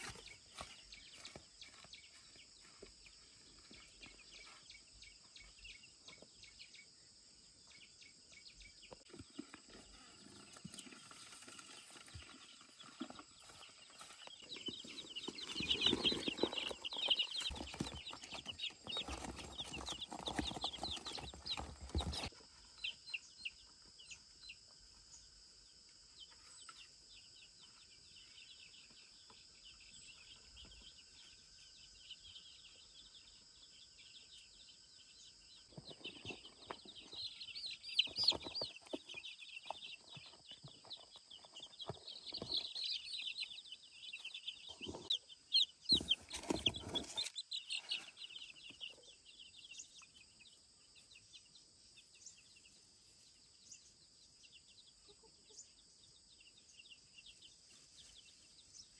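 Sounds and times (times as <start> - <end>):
chicks peeping: 0.0 - 6.9, 7.6 - 24.7, 26.0 - 58.9.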